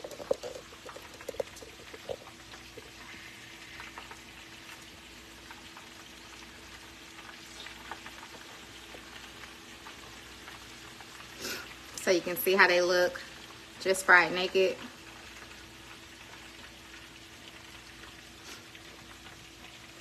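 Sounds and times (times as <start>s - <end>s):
oil sizzling while deep-frying: 0.0s - 20.0s.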